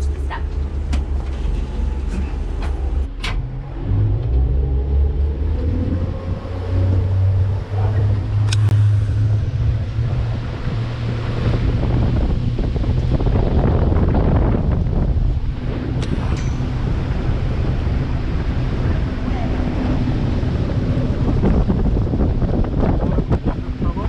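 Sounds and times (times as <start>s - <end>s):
boat engine humming: 0.0s - 24.0s
rushing water: 3.8s - 24.0s
wind on microphone: 3.8s - 24.0s.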